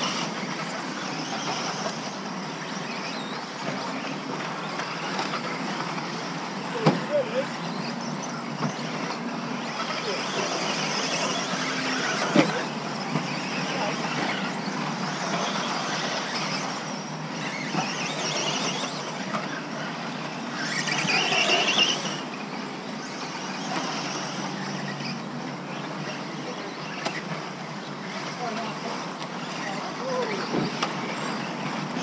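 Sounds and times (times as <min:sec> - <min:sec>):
rc car motor whine: 0:00.0 - 0:32.0.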